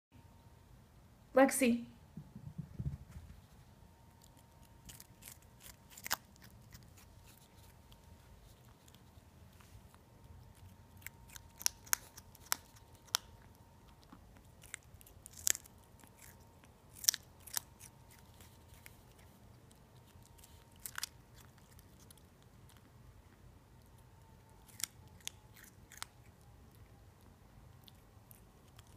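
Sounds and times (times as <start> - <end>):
kitten crunching cucumber: 3.4 - 28.9.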